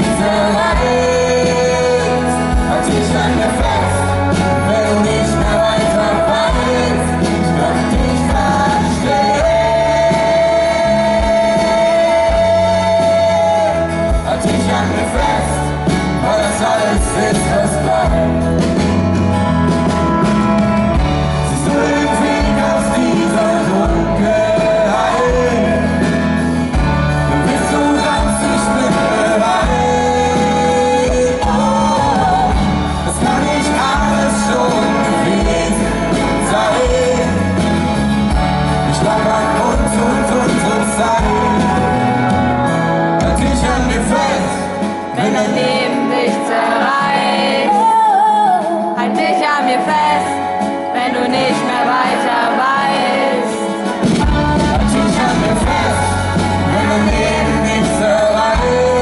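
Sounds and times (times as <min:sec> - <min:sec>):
live pop-rock band music: 0:00.0 - 0:59.0.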